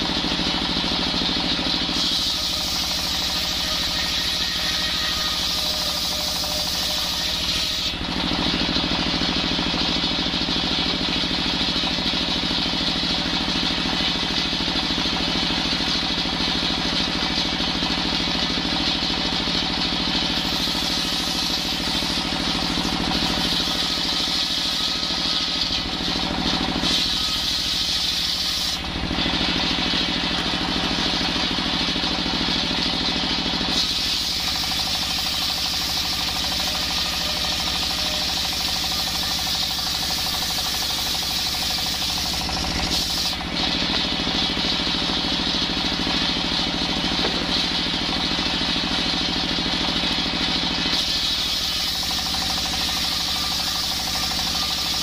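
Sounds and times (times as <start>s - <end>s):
circular saw cutting wood: 0.0s - 55.0s
diesel engine running: 0.0s - 55.0s.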